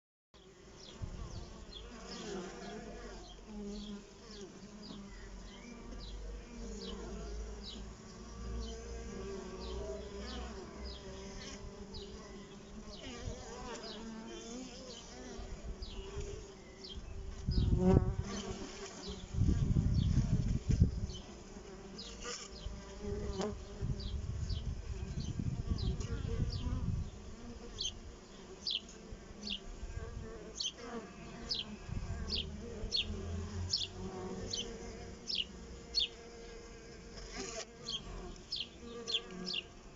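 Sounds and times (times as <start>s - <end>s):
honeybees buzzing: 0.4s - 39.9s.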